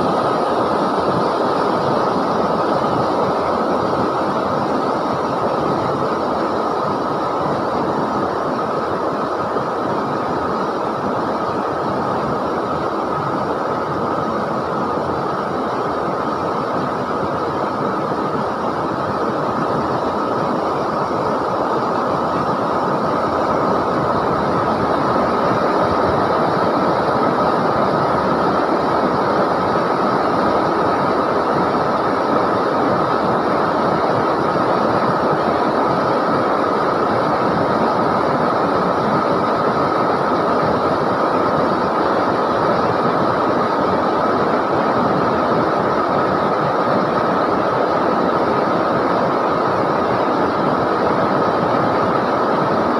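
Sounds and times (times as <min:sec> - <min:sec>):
river water rushing: 0:00.0 - 0:52.9.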